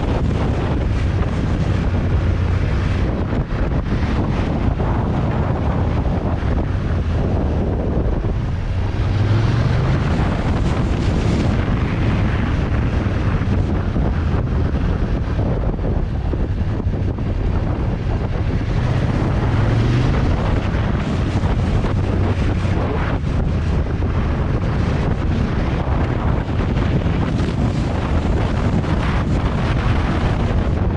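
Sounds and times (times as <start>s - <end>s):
motorcycle engine accelerating: 0.0s - 30.9s
wind buffeting microphone: 0.0s - 30.9s.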